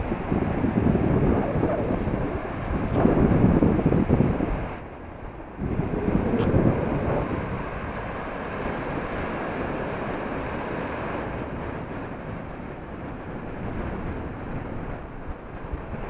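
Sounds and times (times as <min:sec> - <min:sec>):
sea surf breaking: 0:00.0 - 0:16.0
wind buffeting microphone: 0:00.0 - 0:16.0.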